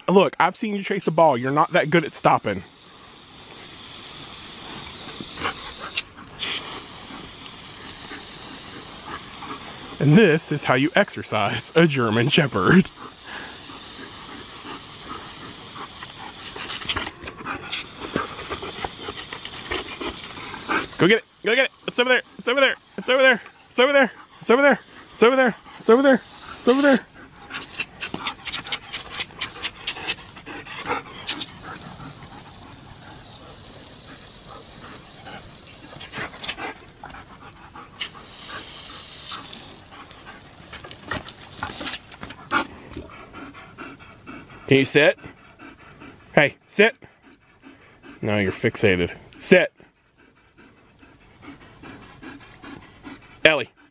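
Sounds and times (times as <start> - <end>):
hose water jet hissing: 0.0 - 45.2
dog panting: 0.7 - 53.9.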